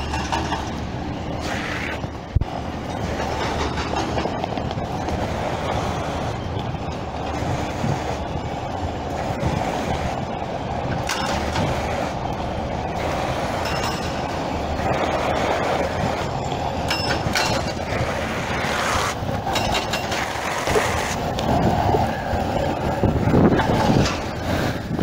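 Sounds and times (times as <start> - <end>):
skateboard wheels rolling on concrete: 0.0 - 25.0.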